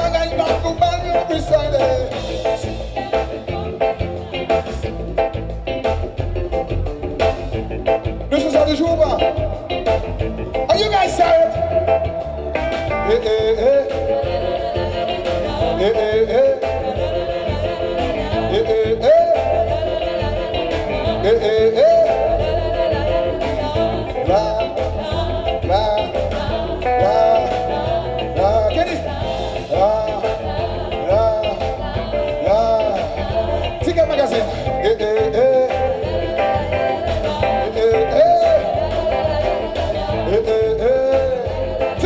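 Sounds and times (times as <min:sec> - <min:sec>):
live band music: 0:00.0 - 0:42.0.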